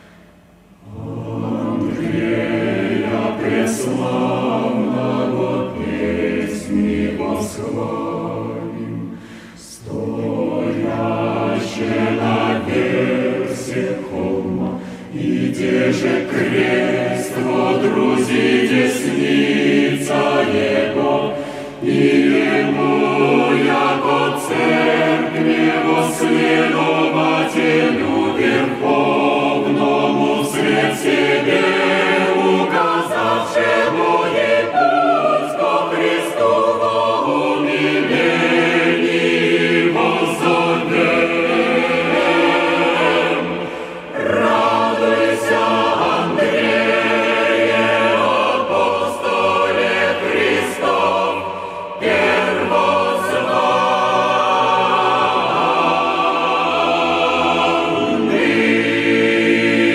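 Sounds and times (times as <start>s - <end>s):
choir singing a hymn a cappella: 0.0s - 59.9s.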